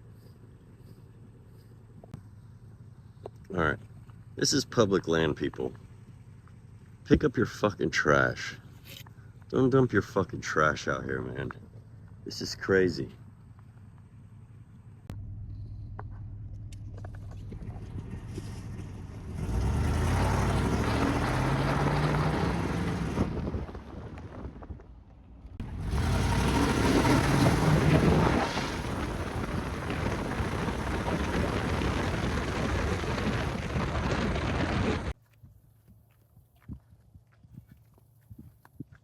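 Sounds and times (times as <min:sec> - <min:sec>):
car engine accelerating: 0:00.0 - 0:35.2.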